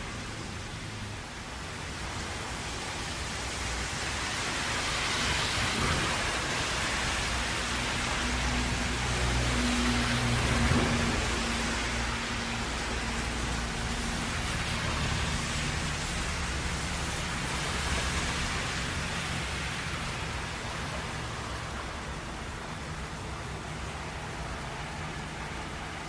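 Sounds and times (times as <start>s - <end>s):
passing vehicles rumbling: 0.0s - 26.0s
rain and tyre spray hiss: 0.0s - 26.0s.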